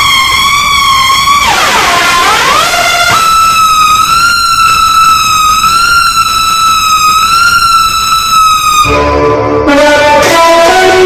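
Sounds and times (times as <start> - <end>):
electronic siren effect: 0.0 - 11.0.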